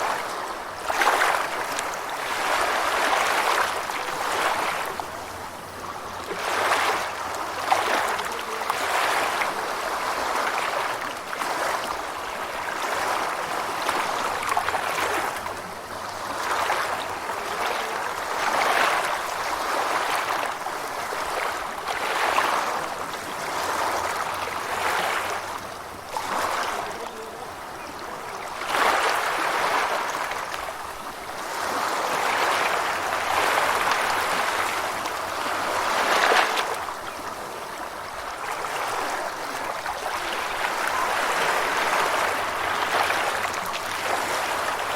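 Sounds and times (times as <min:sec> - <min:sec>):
ocean waves washing in: 0:00.0 - 0:44.9.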